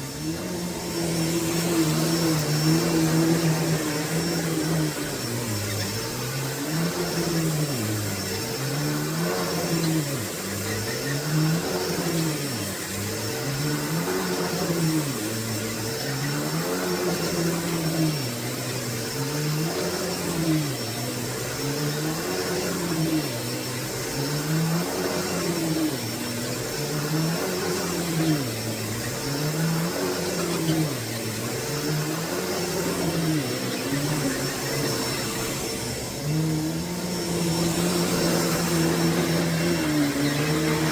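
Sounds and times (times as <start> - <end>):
upright vacuum cleaner running: 0.0 - 40.9.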